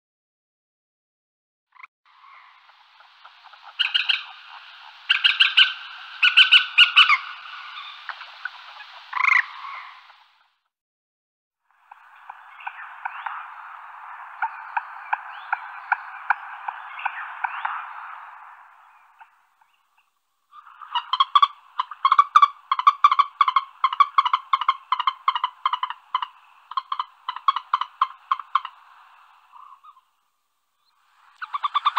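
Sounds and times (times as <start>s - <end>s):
rapid pulsed animal calls: 2.1s - 10.5s, 11.7s - 30.2s, 30.8s - 31.9s.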